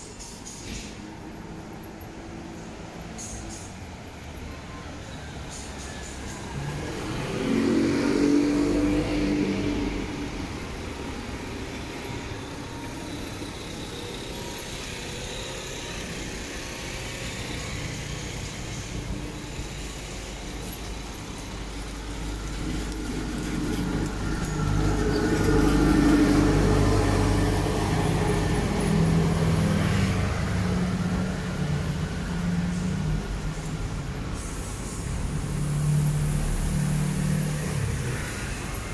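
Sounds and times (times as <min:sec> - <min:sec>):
heavy engine passing with whine: 0:00.0 - 0:38.9
traffic hum: 0:00.0 - 0:38.9.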